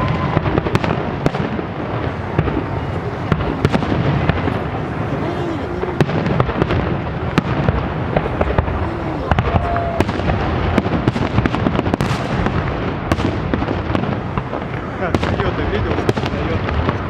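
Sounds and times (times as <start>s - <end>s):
fireworks bursting: 0.0s - 17.0s
sharp firework cracks: 0.0s - 17.0s.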